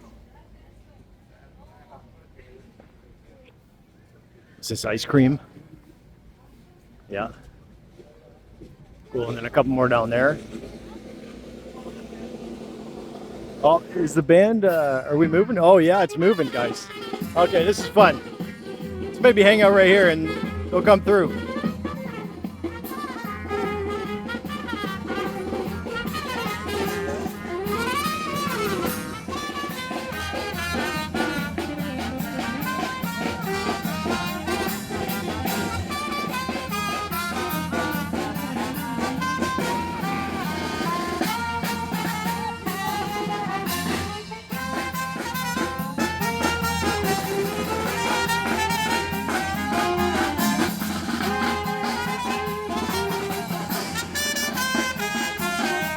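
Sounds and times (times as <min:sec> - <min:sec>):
marching brass band playing: 0:09.2 - 0:55.9.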